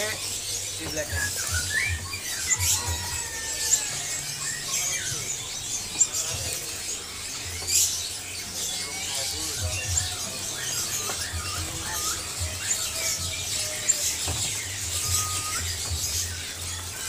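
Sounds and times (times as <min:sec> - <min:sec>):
small birds chirping and twittering: 0:00.0 - 0:17.0.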